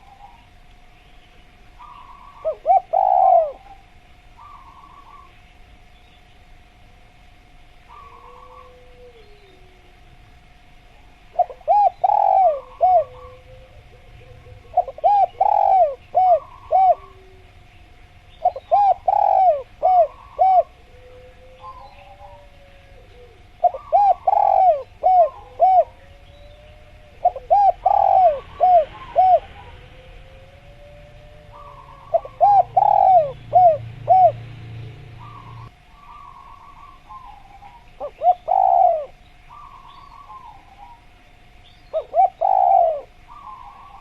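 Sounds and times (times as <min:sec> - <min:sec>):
dove cooing: 0:00.0 - 0:00.6, 0:01.7 - 0:05.4, 0:07.9 - 0:10.1, 0:10.9 - 0:44.0
other birds calling: 0:00.0 - 0:06.4, 0:07.8 - 0:10.0, 0:11.0 - 0:44.0
faint steady tone: 0:00.0 - 0:44.0.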